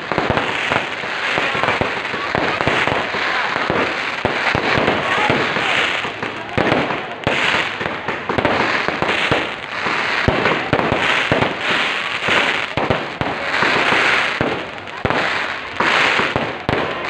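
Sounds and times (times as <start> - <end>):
firecrackers crackling: 0.0 - 17.0
fireworks bangs: 0.0 - 17.0.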